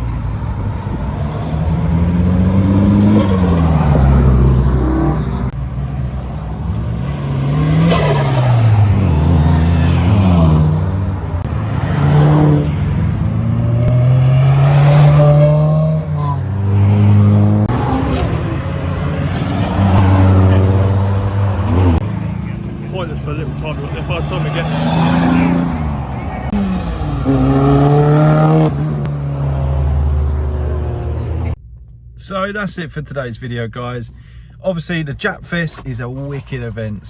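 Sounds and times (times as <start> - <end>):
car engines revving: 0.0 - 31.6.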